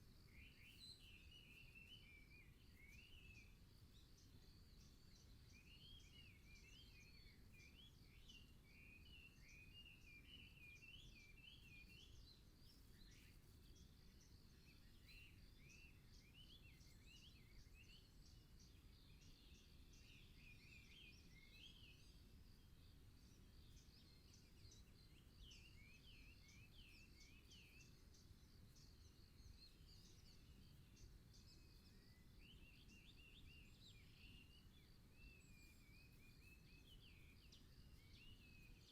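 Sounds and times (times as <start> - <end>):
faint songbirds singing: 0.0 - 38.9.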